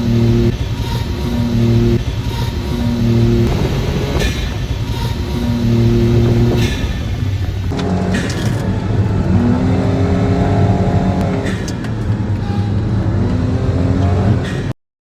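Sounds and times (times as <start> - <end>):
car engine and drivetrain running: 0.0 - 14.8.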